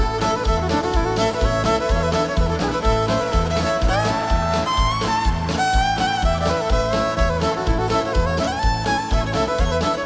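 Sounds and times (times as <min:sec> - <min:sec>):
fiddles: 0:00.0 - 0:10.0
guitar: 0:00.0 - 0:10.0.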